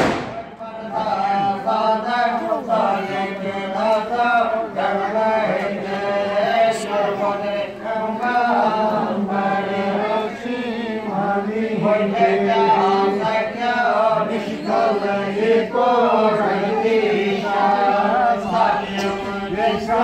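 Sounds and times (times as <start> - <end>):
group chanting in unison: 0.3 - 20.0.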